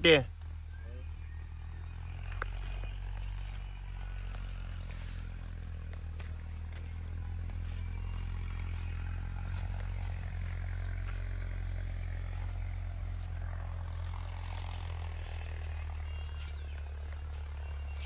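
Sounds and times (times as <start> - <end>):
motor humming steadily: 0.0 - 18.0.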